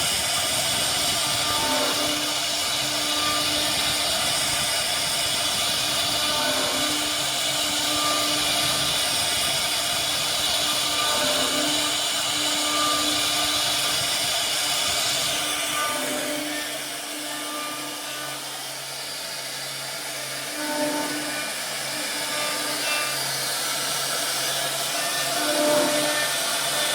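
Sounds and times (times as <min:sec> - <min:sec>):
low motor tones: 0:00.0 - 0:26.9
router spindle cutting hiss: 0:00.0 - 0:26.9.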